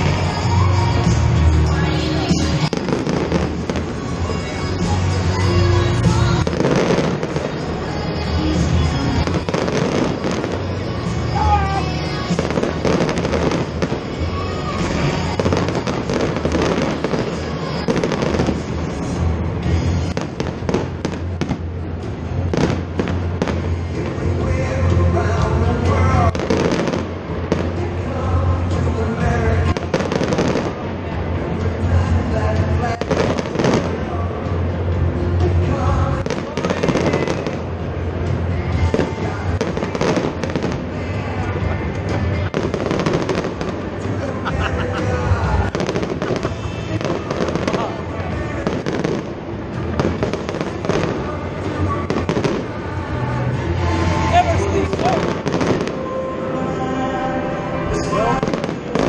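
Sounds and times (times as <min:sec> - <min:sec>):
fireworks bursting and crackling: 0:00.0 - 0:56.3, 0:58.0 - 0:59.0
music playing: 0:00.0 - 0:59.0.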